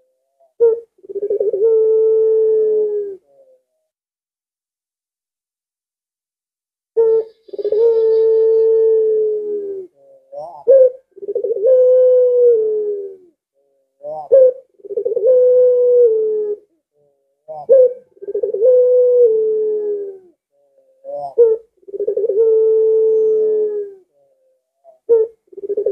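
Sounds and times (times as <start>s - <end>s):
dove cooing: 0.0s - 3.9s, 7.0s - 25.9s.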